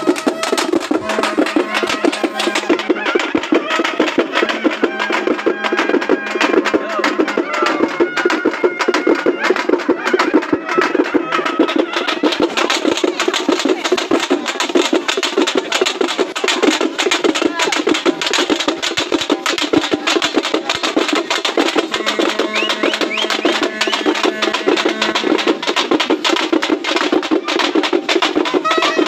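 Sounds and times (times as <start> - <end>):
crowd voices: 0.0 - 29.0
fast processional drumming: 0.0 - 29.0.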